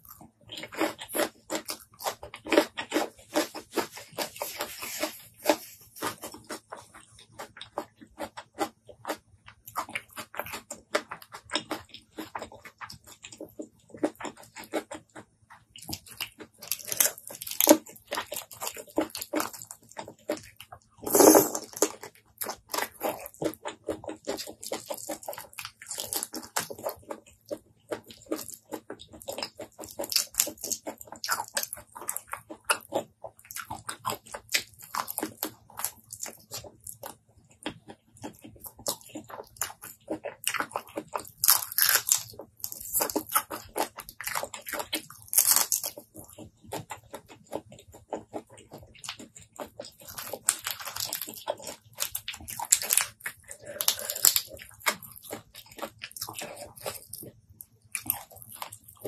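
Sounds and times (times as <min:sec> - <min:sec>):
chewing and wet mouth sounds: 0:00.0 - 0:59.0
crunching: 0:00.0 - 0:59.0.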